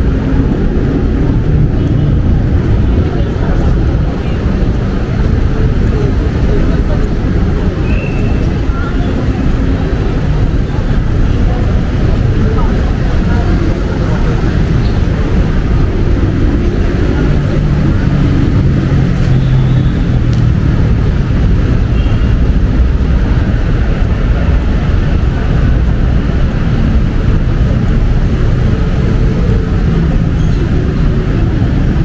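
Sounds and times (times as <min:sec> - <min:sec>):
tyre noise on road: 0:00.0 - 0:32.0
vehicle engines: 0:00.0 - 0:32.0.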